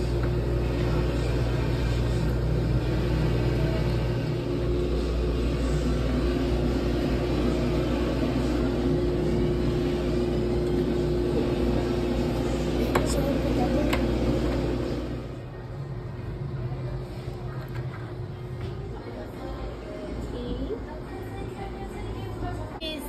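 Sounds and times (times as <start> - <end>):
shop background rumble and hum: 0.0 - 23.0.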